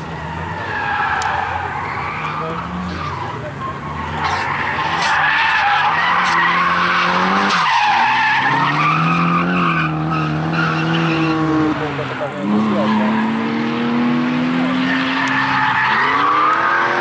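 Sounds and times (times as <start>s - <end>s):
car engines revving: 0.0s - 17.0s
tyres screeching: 0.0s - 17.0s.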